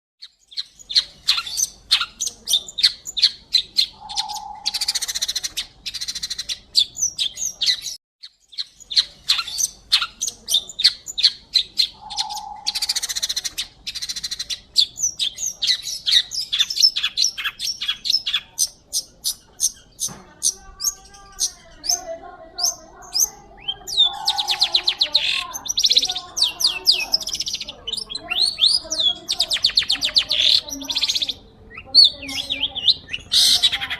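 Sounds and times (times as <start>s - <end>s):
bird singing sharp chirps: 0.2s - 33.9s.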